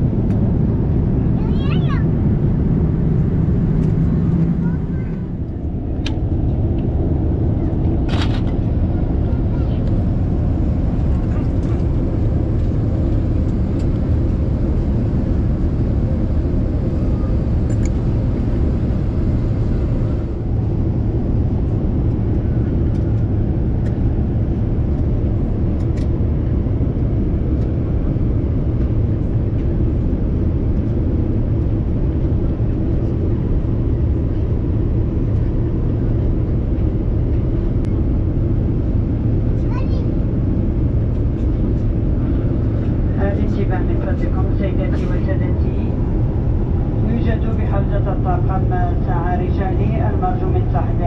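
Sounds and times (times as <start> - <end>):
airliner cabin noise: 0.0 - 51.0.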